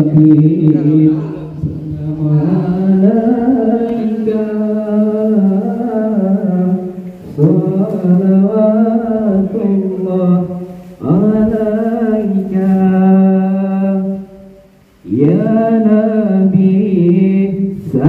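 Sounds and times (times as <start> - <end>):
man chanting: 0.0 - 18.0.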